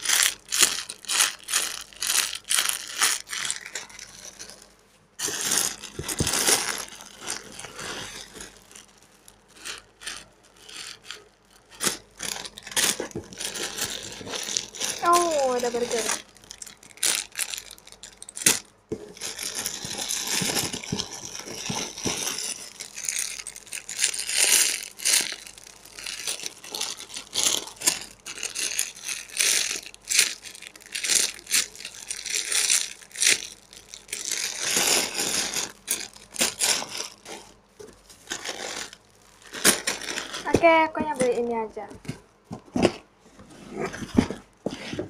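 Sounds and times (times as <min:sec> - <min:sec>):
plastic wrappers crinkling: 0:00.0 - 0:43.0.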